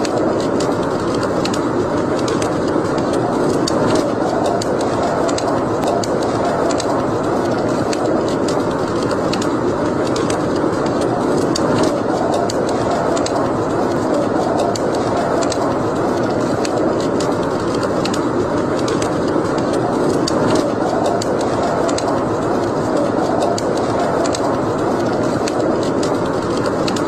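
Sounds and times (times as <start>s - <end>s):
burning logs crackling and popping: 0.0s - 27.0s
fire flames rushing: 0.0s - 27.0s.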